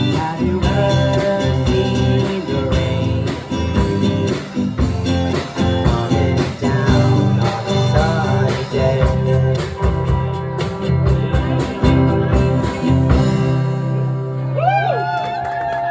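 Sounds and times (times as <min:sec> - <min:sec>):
bass guitar: 0:00.0 - 0:15.9
drums: 0:00.0 - 0:15.9
guitar: 0:00.0 - 0:15.9.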